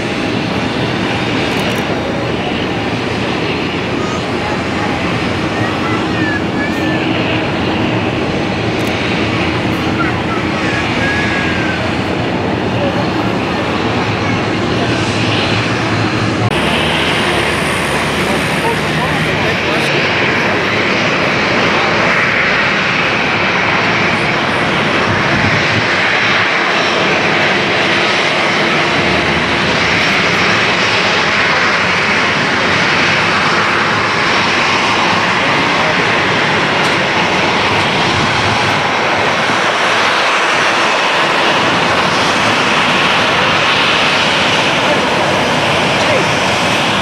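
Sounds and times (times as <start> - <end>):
jet engines at taxi power: 0.0 - 47.0.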